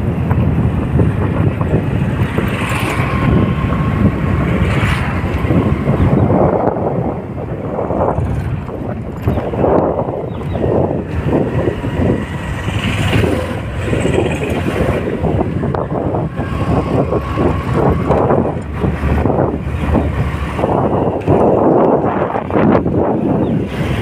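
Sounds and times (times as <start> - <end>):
low vehicle engine hum: 0.0 - 24.0
wind buffeting microphone: 0.0 - 24.0.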